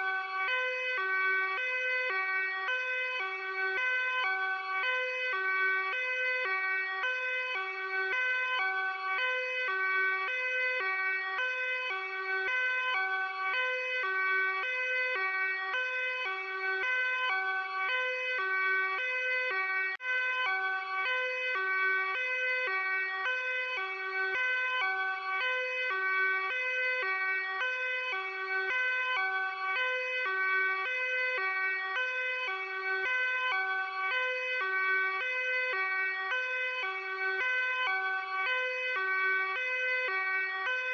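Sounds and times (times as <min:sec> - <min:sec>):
police two-tone siren: 0:00.0 - 0:40.9.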